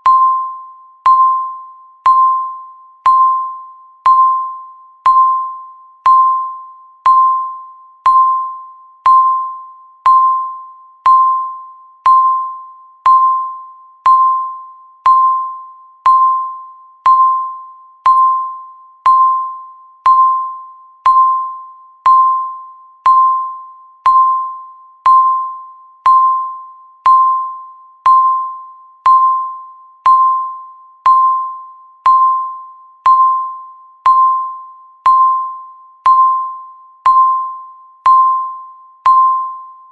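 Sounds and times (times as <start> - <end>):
countdown timer beeping: 0.0 - 39.9.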